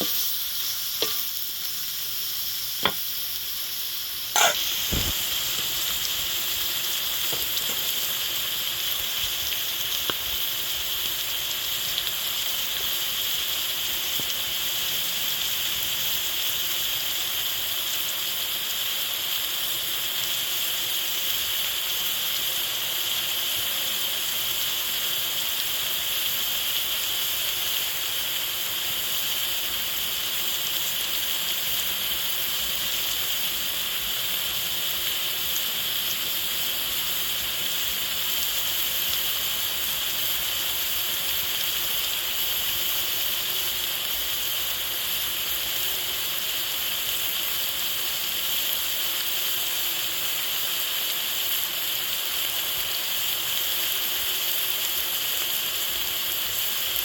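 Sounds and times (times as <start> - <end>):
food sizzling in hot oil: 0.0 - 57.0.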